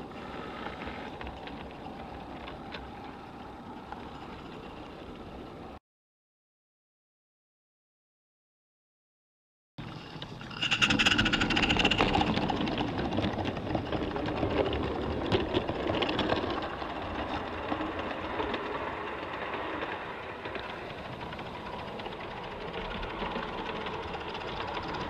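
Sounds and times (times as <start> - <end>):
steam locomotive running: 0.0 - 5.8, 9.9 - 25.0
wheels clicking over track: 0.0 - 5.8, 9.8 - 25.0.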